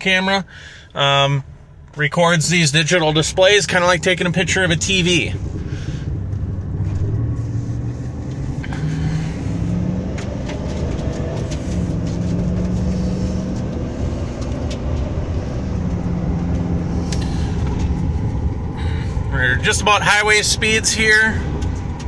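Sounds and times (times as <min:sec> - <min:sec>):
road and tyre noise: 0:00.0 - 0:22.0
truck engine accelerating: 0:00.0 - 0:22.0.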